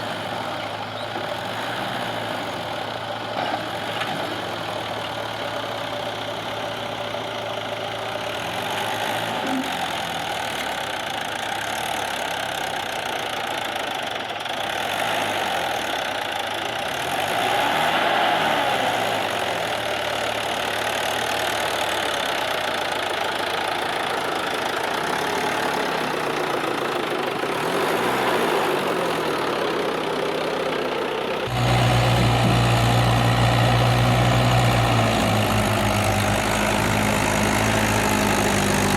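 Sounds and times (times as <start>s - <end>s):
backhoe diesel engine running: 0.0s - 38.9s.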